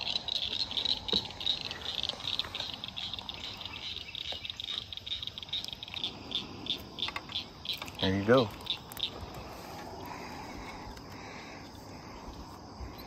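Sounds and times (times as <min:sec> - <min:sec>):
chorus of high-pitched chirps: 0:00.0 - 0:13.0.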